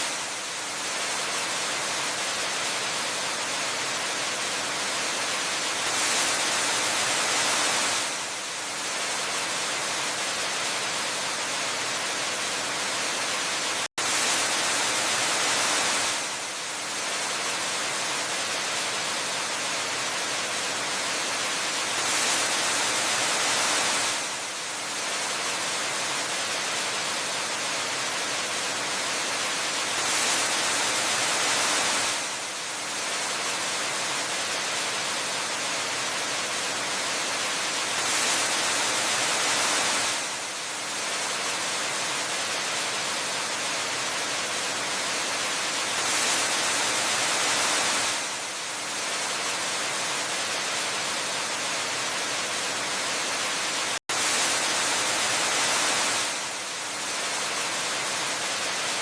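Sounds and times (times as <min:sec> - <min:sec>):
waterfall rushing hiss: 0:00.0 - 0:59.0.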